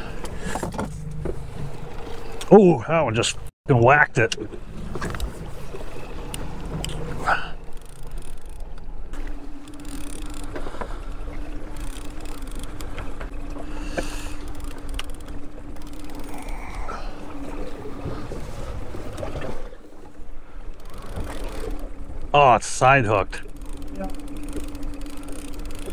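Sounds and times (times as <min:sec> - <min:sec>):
boat motor rumble: 0:00.0 - 0:25.9
water noise: 0:00.0 - 0:25.9
wind: 0:00.0 - 0:25.9
steady hum: 0:04.3 - 0:25.9.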